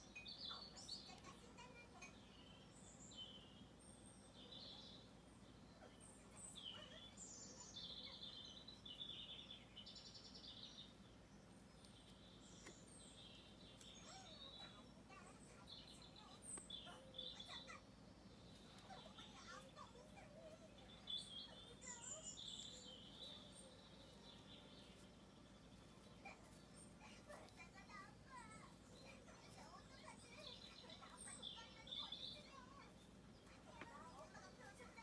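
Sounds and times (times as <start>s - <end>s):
birds chirping: 0.0s - 35.0s
buzzy bird trills: 0.0s - 35.0s.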